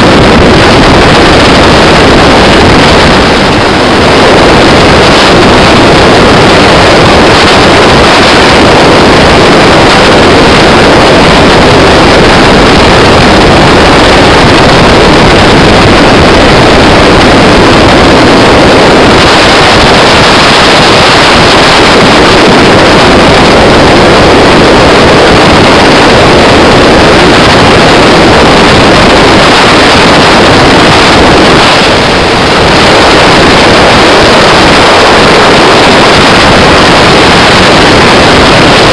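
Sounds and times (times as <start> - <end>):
boat engine and water wash: 0.0 - 38.9
wind on microphone: 0.0 - 38.9.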